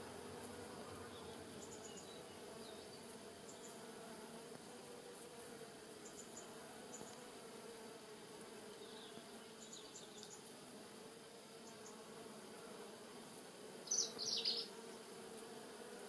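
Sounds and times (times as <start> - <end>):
bumblebee buzzing: 0.0 - 16.0.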